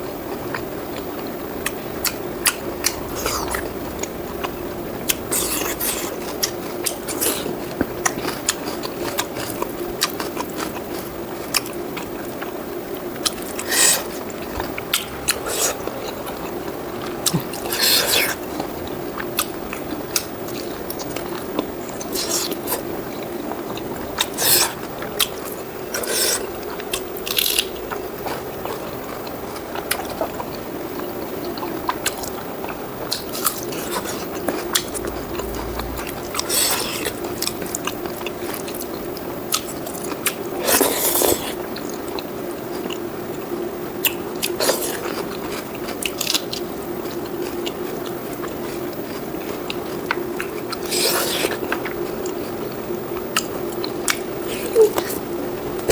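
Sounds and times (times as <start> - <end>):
chewing food: 0.0 - 55.9.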